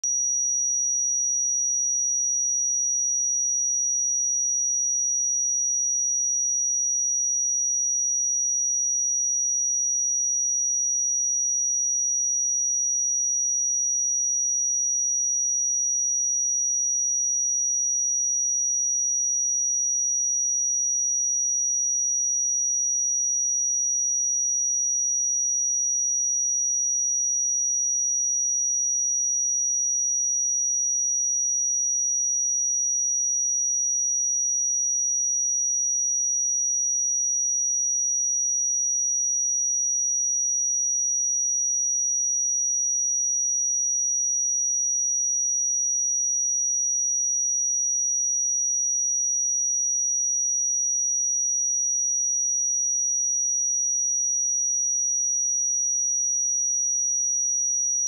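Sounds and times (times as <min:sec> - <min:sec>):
sine-wave test tone: 0:00.0 - 0:58.0.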